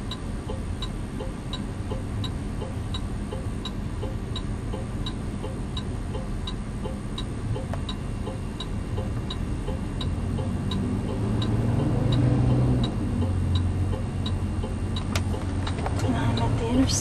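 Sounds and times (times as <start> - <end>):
turn-signal indicator ticking: 0.0 - 17.0.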